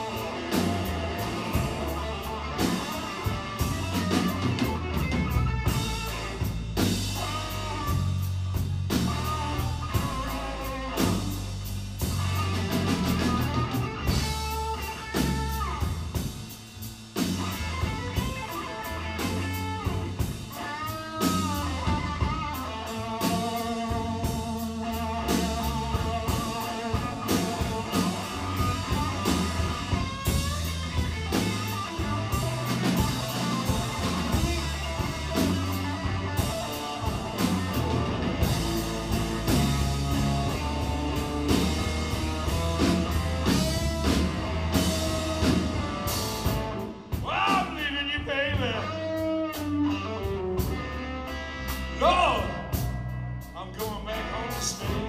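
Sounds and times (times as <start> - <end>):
lead electric guitar: 0.0 - 16.3, 17.2 - 55.0
bass guitar: 0.0 - 55.0
drum kit: 0.0 - 55.0.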